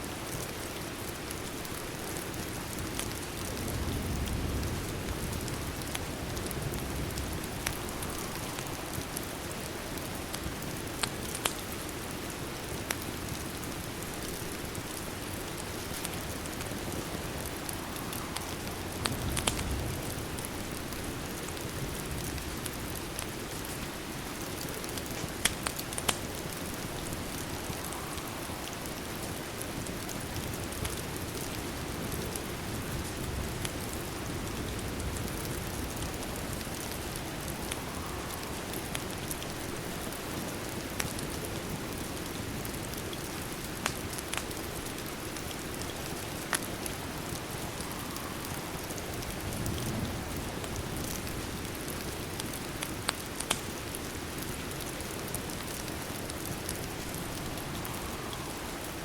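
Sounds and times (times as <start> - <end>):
rain falling: 0.0 - 59.0
fireplace fire popping: 0.4 - 58.9.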